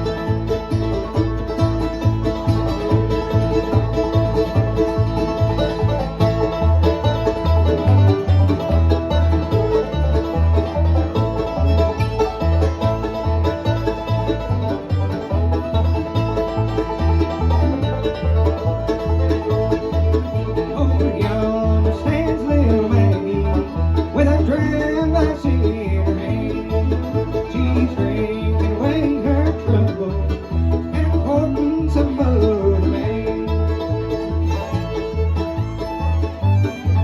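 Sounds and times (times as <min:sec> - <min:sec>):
acoustic guitar: 0:00.0 - 0:37.0
banjo: 0:00.0 - 0:37.0
bass beat: 0:00.0 - 0:37.0
bowed fiddle: 0:00.0 - 0:37.0.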